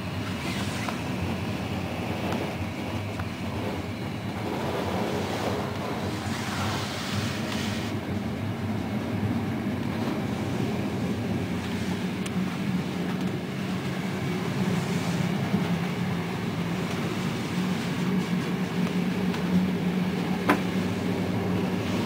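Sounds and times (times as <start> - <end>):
train rolling along track: 0.0 - 22.0.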